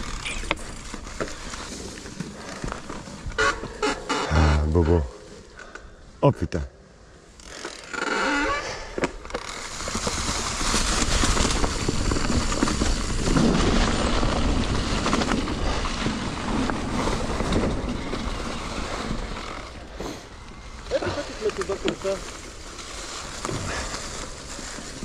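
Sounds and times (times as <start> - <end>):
bike tyres rumbling on dirt: 0.0 - 4.6, 7.2 - 25.0.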